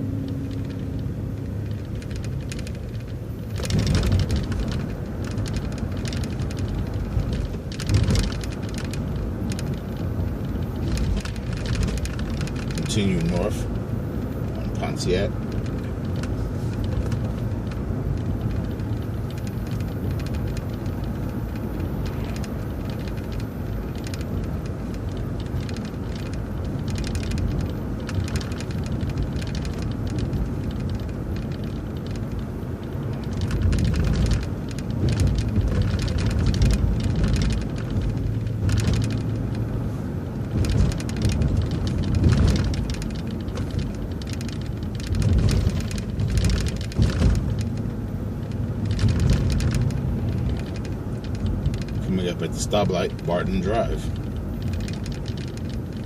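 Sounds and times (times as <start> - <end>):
bus engine and road rumble: 0.0 - 56.0
rattling and knocking: 0.3 - 13.8, 14.7 - 39.8, 40.4 - 53.3.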